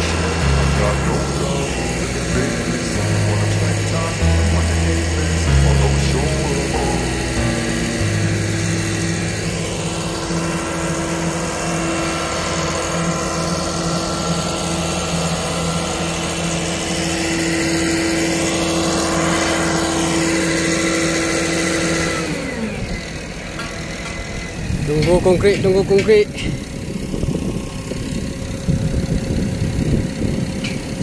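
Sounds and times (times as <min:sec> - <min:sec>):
high whine: 0:00.0 - 0:30.3
heavy diesel engine running: 0:00.0 - 0:31.0.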